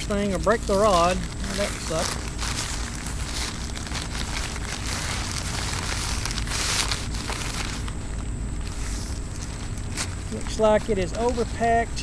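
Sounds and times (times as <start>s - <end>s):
kraft paper crinkling: 0.0s - 11.8s.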